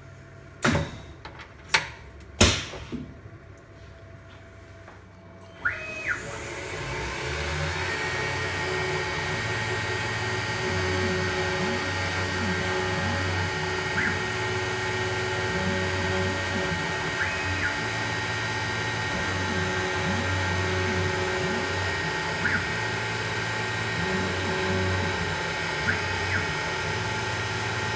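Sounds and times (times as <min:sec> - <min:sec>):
mill spindle running: 0:04.2 - 0:27.9
stepper motor whine: 0:05.4 - 0:27.9.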